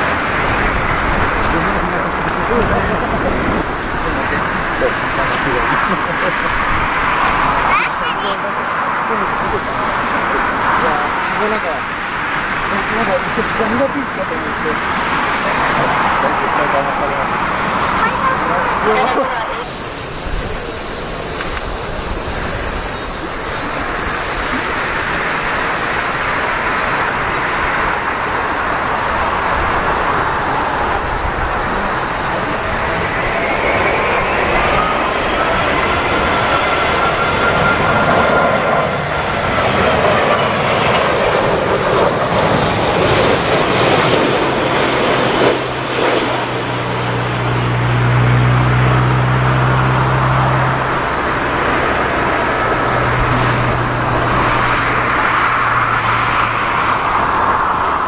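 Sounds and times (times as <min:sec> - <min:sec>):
jet engine whine gliding in pitch: 0:00.0 - 0:58.0
jet engines rushing: 0:00.0 - 0:58.0
low steady drone: 0:00.0 - 0:58.0.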